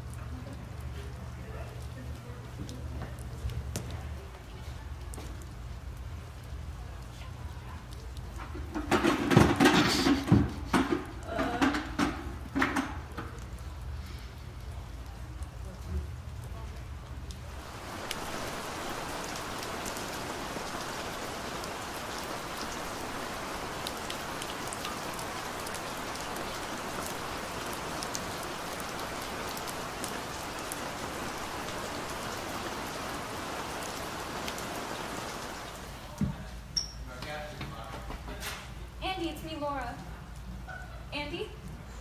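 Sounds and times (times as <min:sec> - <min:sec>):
steady rain: 0:00.0 - 0:42.0.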